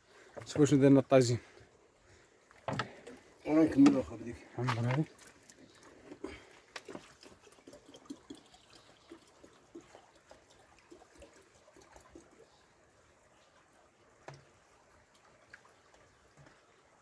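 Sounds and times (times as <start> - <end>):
trickle of spring water: 0.0 - 17.0
water plops and drips: 2.6 - 16.8.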